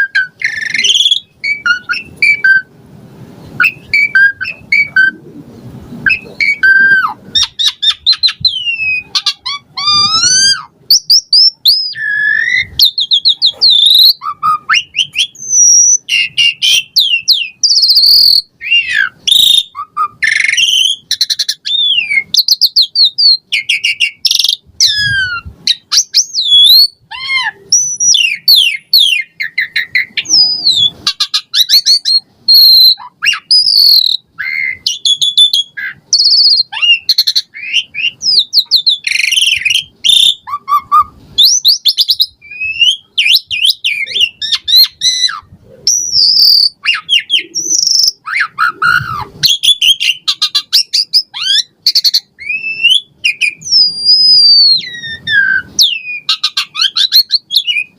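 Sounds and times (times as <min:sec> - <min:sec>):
starling singing varied whistles: 0:00.0 - 0:02.8, 0:03.4 - 0:05.2, 0:06.0 - 0:57.9.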